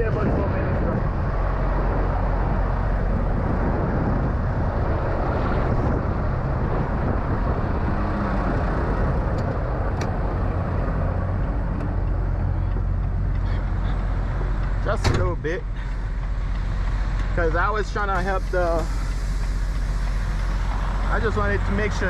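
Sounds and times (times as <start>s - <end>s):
truck diesel engine idling: 0.0s - 22.0s.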